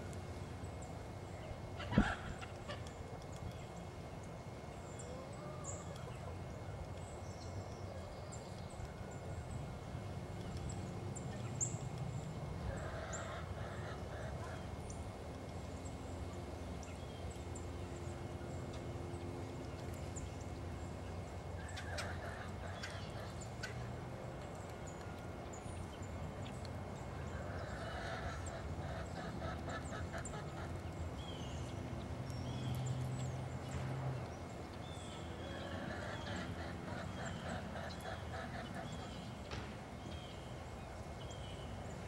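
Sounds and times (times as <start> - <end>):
birds calling: 0.4 - 42.0.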